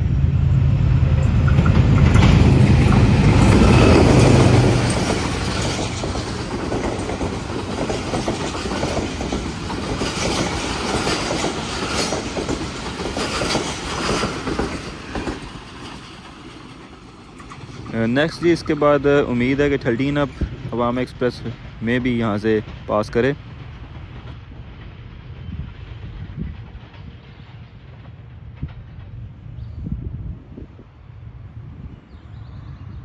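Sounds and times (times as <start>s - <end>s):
heavy low train rumble: 0.0s - 33.0s
coaches rolling with clickety-clack: 1.4s - 29.6s.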